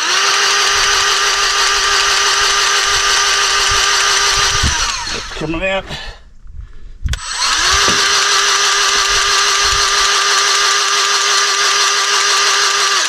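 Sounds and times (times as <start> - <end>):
grease gun motor whine: 0.0 - 5.6, 7.0 - 13.0.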